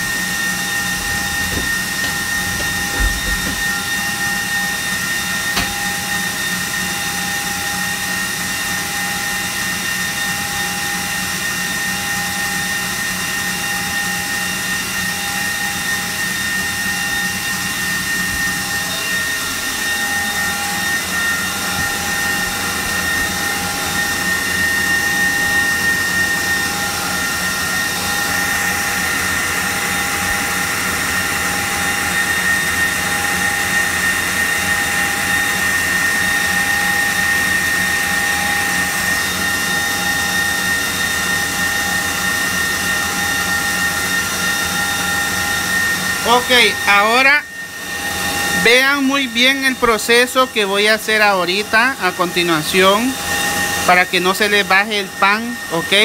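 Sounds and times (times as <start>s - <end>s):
stand mixer motor whining: 0.0s - 56.0s.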